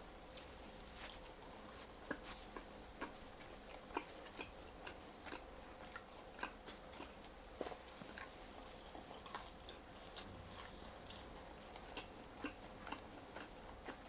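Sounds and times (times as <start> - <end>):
chewing crunchy fries: 0.2 - 14.0.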